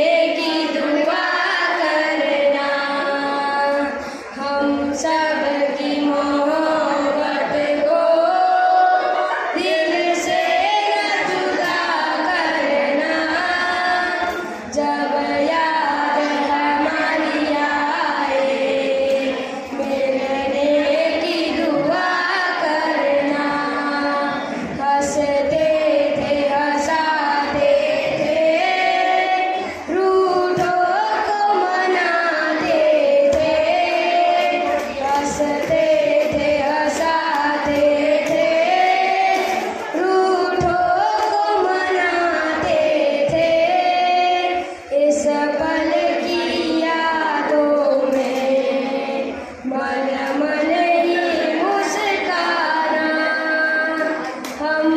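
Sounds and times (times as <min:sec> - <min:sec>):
boys singing into a microphone: 0:00.0 - 0:54.9.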